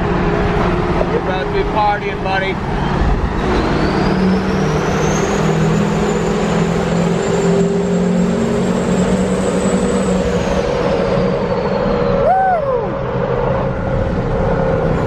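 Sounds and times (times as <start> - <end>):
diesel engine pulling hard: 0.0 - 15.0
high turbo whine: 0.0 - 15.0.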